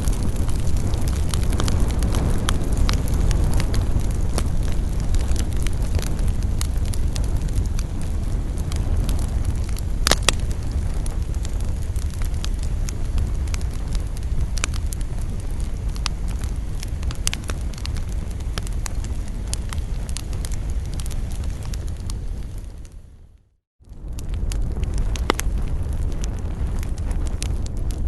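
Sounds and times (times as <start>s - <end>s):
loud fire pop: 0.0s - 22.2s, 24.1s - 28.0s
campfire crackling: 0.0s - 28.0s.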